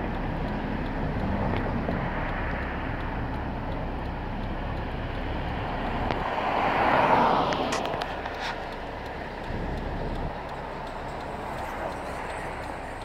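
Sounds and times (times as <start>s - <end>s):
faint engine hum: 0.0s - 13.0s
road traffic rumble: 0.0s - 13.0s.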